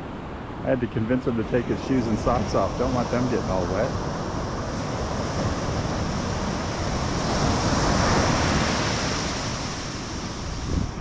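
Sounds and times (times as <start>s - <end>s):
ocean surf washing on beach: 0.0s - 11.0s
wind rumbling on microphone: 0.0s - 11.0s.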